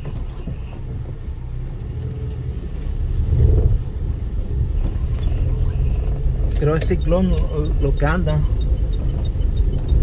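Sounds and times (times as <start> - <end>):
car road rumble on wet streets: 0.0 - 10.0.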